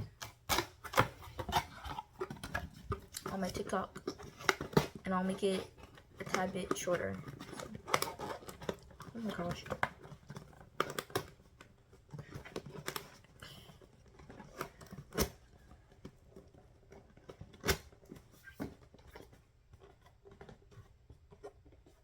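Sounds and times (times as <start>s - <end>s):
items being handled clicking: 0.0s - 22.0s.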